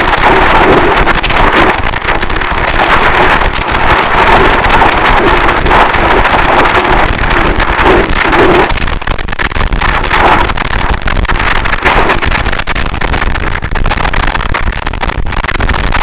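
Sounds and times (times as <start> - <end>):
distorted static roar: 0.0 - 16.0
fine crackle: 0.0 - 16.0.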